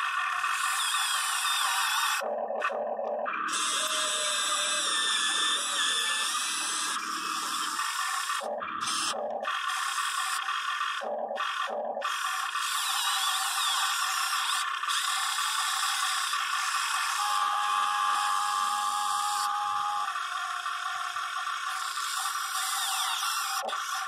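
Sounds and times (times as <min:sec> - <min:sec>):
electric motors whirring: 0:00.0 - 0:24.0.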